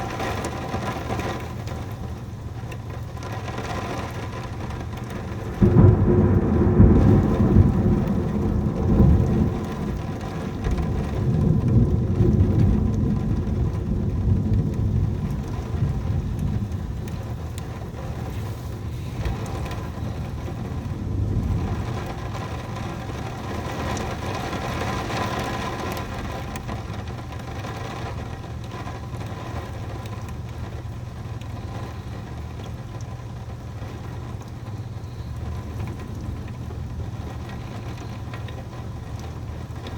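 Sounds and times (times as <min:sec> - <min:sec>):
heavy rain: 0:00.0 - 0:39.9
thunder rolling: 0:03.6 - 0:32.4, 0:33.4 - 0:39.9.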